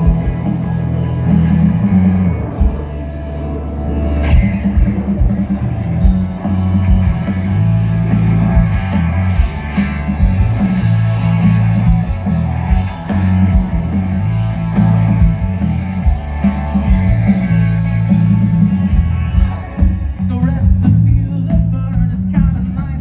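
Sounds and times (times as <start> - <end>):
steady drum beat: 0.0 - 3.0, 4.3 - 23.0
electric guitar: 0.0 - 23.0
heavy booming bass: 0.0 - 23.0
rock band playing live: 0.0 - 23.0.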